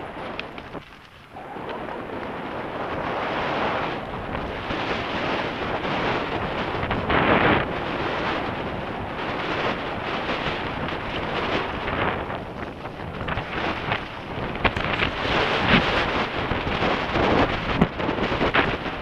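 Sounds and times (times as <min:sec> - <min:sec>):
bike rattling over bumps: 0:00.0 - 0:19.0
bike tyre roar: 0:00.0 - 0:19.0
wind noise on microphone: 0:00.0 - 0:19.0.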